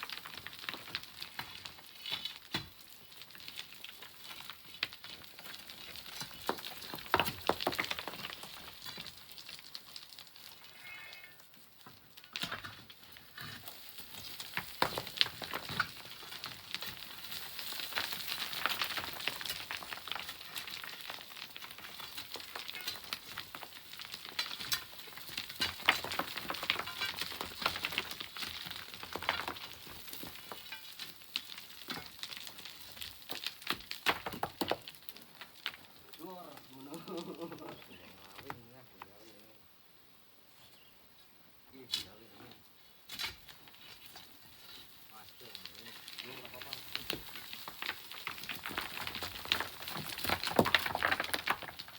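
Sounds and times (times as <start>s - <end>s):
sand and pebbles trickling: 0.0s - 39.6s, 41.8s - 51.9s.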